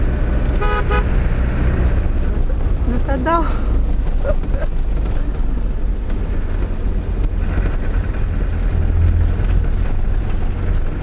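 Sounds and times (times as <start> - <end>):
engine and tyres rumbling: 0.0 - 11.0
faint rattles: 1.3 - 11.0.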